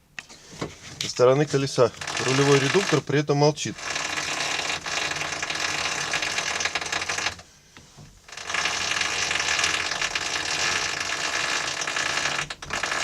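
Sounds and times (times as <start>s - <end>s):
car suspension creaking: 0.2s - 13.0s.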